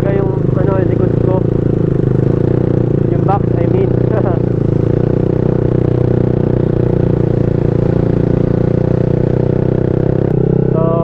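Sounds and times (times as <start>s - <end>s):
motorcycle engine under load: 0.0s - 11.0s.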